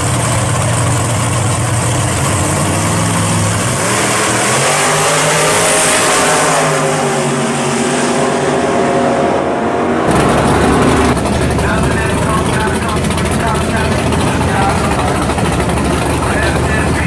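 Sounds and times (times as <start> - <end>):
close engine running: 0.0 - 17.0
race car engines accelerating: 0.0 - 17.0.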